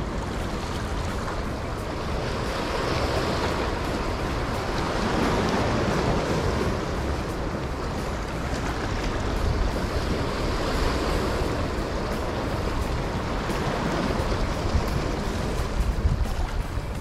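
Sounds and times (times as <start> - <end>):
waves breaking over rocks: 0.0 - 17.0
wind rumble on microphone: 0.0 - 17.0.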